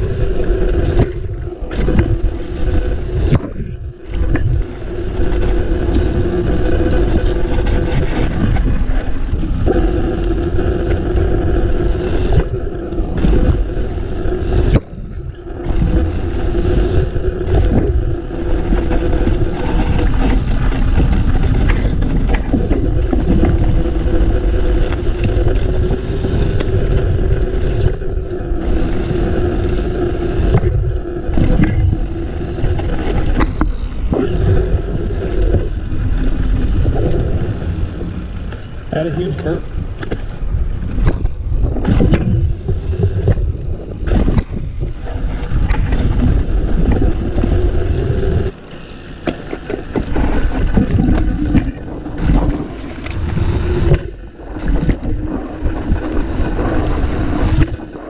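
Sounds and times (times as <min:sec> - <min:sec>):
steady mid-pitched buzz: 0:00.0 - 0:57.8
tyres rumbling over dirt: 0:00.0 - 0:58.0
wind rushing over microphone: 0:00.0 - 0:58.0.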